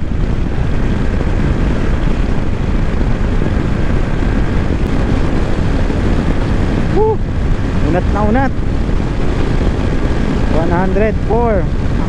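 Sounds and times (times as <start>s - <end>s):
wind rush on microphone: 0.0s - 12.0s.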